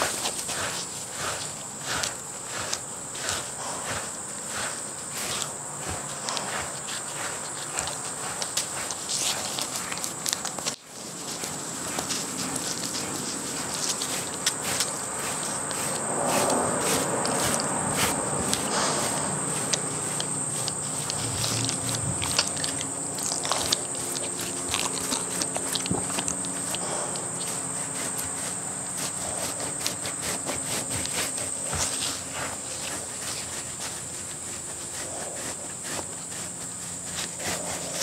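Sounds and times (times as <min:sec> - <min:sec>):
rubber brush rubbing dog's coat: 0:00.0 - 0:38.0
steady high-pitched whine: 0:00.0 - 0:38.0.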